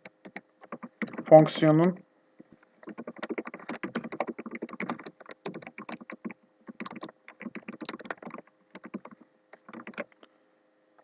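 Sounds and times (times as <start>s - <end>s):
keyboard typing: 0.0s - 10.2s.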